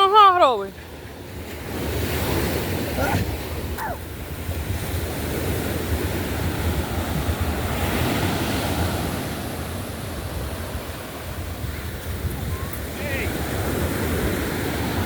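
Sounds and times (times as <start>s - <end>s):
ocean surf washing on shore: 0.0s - 15.0s
wind buffeting microphone: 0.6s - 15.0s.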